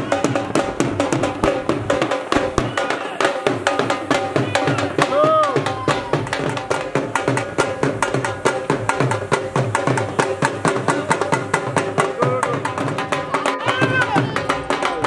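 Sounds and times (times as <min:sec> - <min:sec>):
upbeat music with fast drums: 0:00.0 - 0:15.0.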